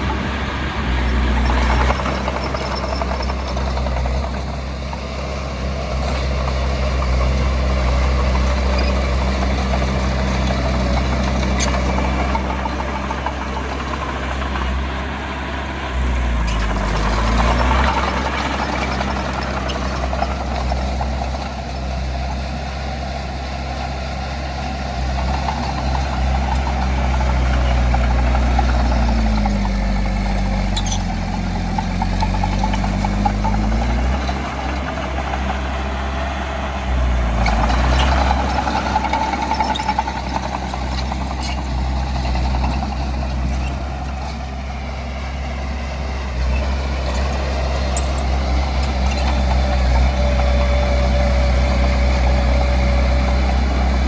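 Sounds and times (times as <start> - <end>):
heavy diesel engine working: 0.0 - 54.0.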